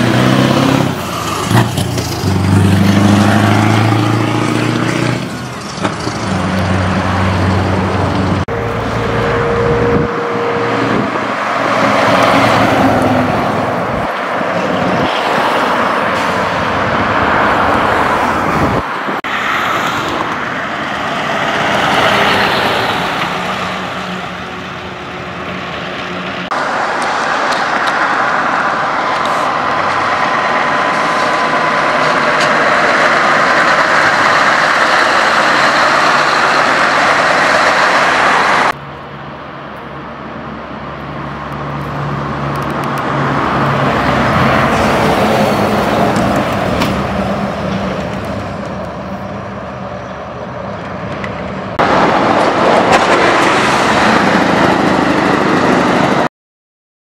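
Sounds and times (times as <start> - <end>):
diesel trucks driving past: 0.0 - 56.3.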